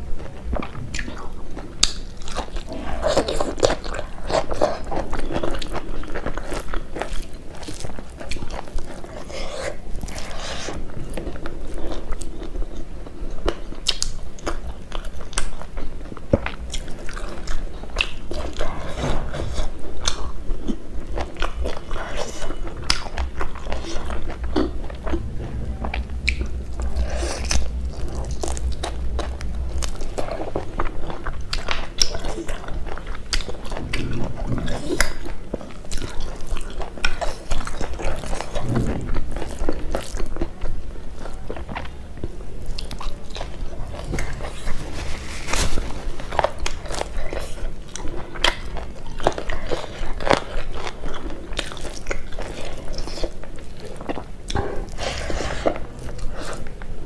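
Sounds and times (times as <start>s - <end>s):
person chewing and biting: 0.3s - 56.9s.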